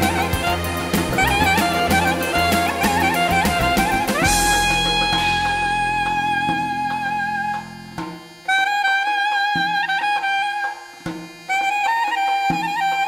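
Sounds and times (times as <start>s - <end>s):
slow instrumental melody: 0.0s - 13.0s.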